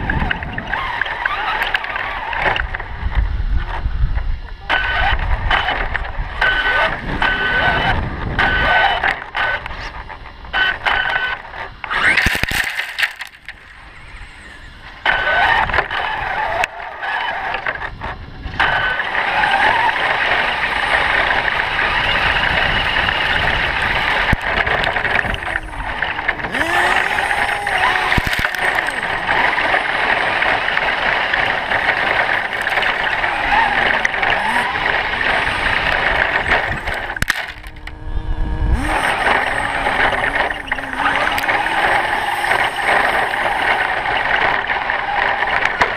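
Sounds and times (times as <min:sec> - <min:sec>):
rc truck motors whining: 0:00.0 - 0:45.9.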